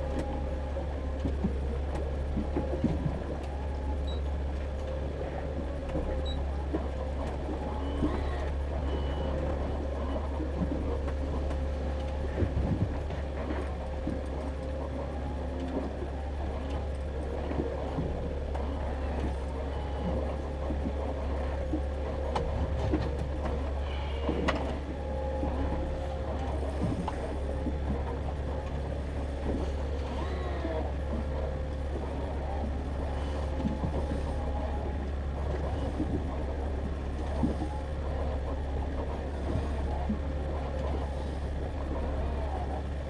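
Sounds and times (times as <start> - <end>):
boat motor droning: 0.0 - 43.0.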